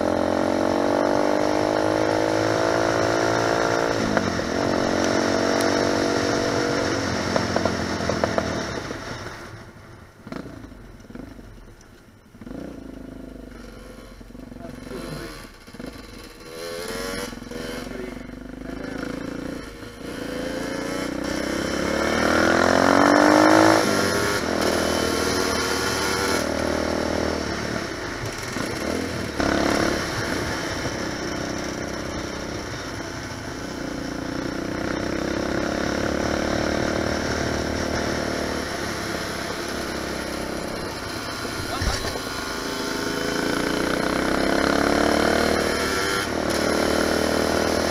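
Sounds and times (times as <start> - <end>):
four-stroke bike engine revving: 0.0 - 8.9, 12.4 - 47.9.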